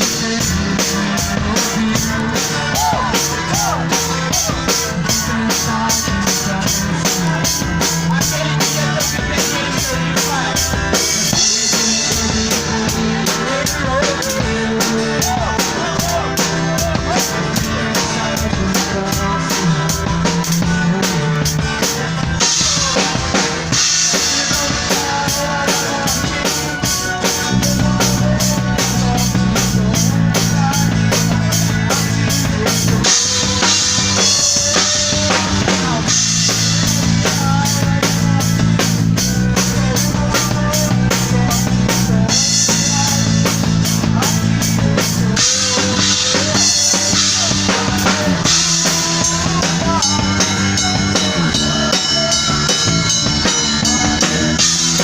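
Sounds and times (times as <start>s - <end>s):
drum kit beat: 0.0s - 55.0s
live gospel band playing: 0.0s - 55.0s.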